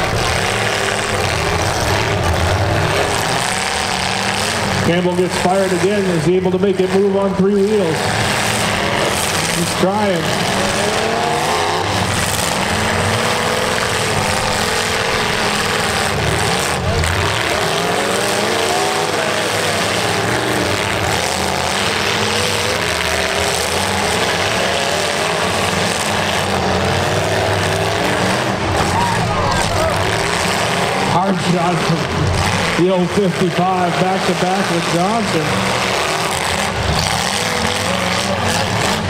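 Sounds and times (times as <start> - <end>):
cars engines revving: 0.0 - 39.0
loud engine noise: 0.0 - 39.0.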